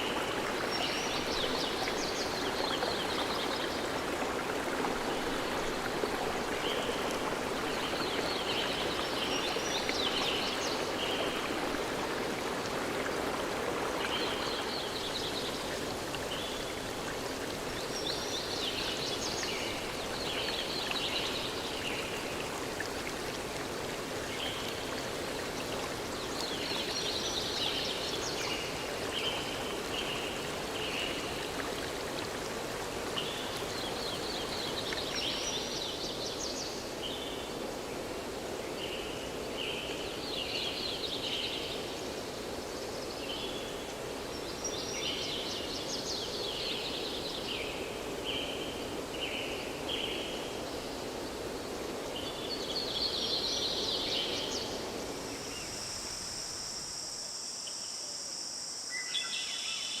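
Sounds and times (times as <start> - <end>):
running water: 0.0 - 57.4
high insect chorus: 0.0 - 60.0.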